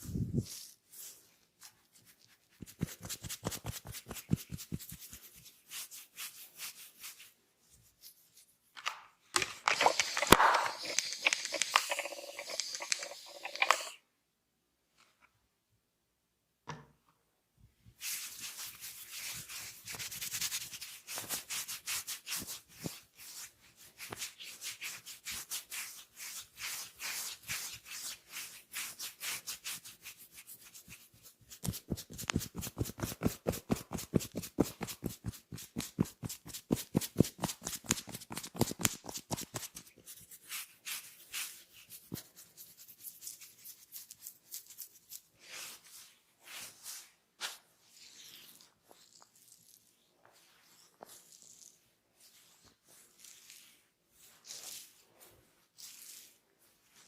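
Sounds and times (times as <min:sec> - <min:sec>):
hands rubbing oiled skin: 0:00.0 - 0:08.6, 0:09.4 - 0:14.0, 0:18.0 - 0:57.0.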